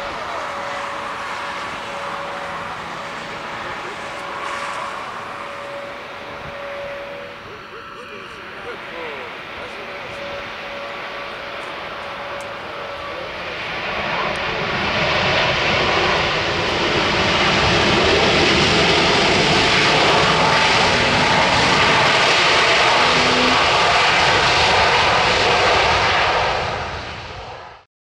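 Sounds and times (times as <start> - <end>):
jet engines roaring: 0.0 - 27.8.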